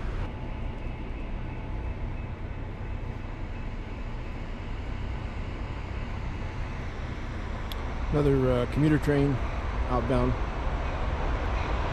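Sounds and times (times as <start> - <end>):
train passing on tracks: 0.0 - 11.9.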